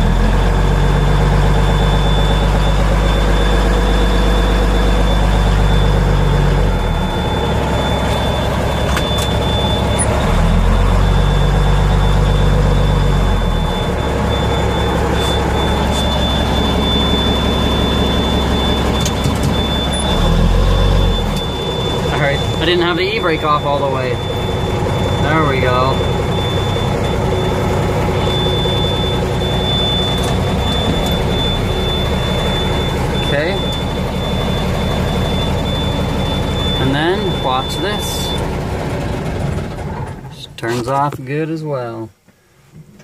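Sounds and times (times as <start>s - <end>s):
diesel truck engine revving: 0.0s - 41.1s.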